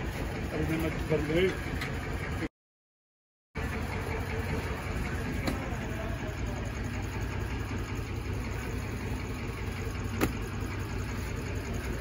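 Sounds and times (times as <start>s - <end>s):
diesel engine idling: 0.0s - 2.5s, 3.6s - 12.0s.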